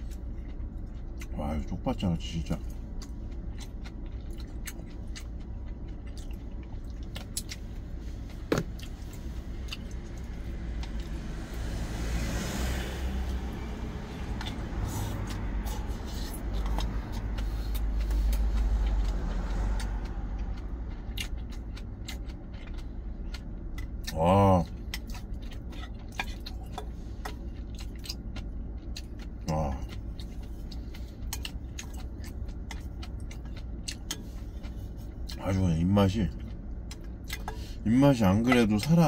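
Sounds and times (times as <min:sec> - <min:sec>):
low vehicle rumble: 0:00.0 - 0:39.0.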